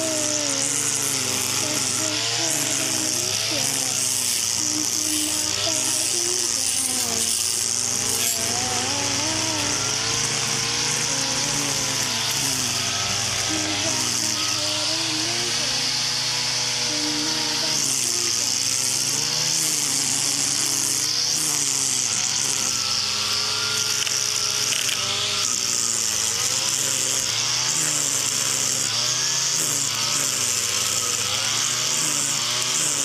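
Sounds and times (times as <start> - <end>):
string trimmer engine running: 0.0 - 33.0
trimmer line hissing through grass: 0.0 - 33.0.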